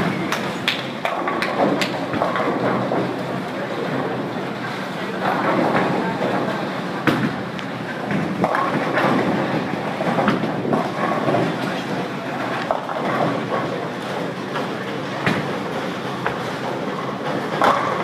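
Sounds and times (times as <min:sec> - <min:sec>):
bowling pins clattering: 0:00.0 - 0:04.2, 0:05.1 - 0:18.0
bowling balls rolling on lanes: 0:00.0 - 0:18.0.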